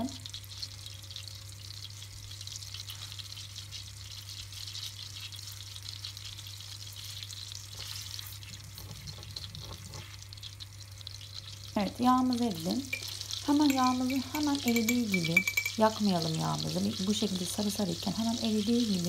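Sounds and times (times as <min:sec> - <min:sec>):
butter sizzling in a pan: 0:00.0 - 0:19.0.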